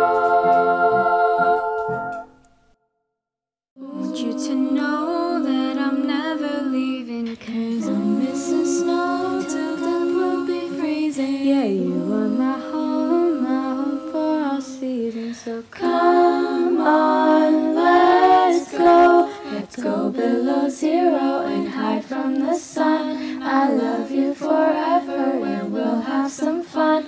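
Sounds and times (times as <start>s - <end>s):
girls' choir singing a cappella: 0.0s - 2.4s, 3.8s - 27.0s.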